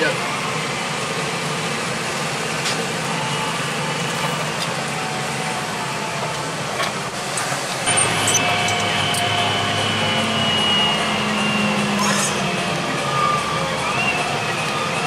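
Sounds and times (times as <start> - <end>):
passing tractor engine: 0.0 - 15.0
tractor engine running: 0.0 - 15.0.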